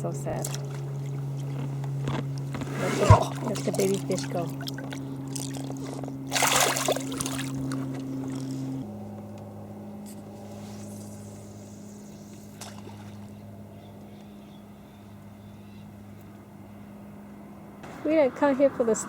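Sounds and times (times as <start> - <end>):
motorboat engine humming: 0.0 - 19.0.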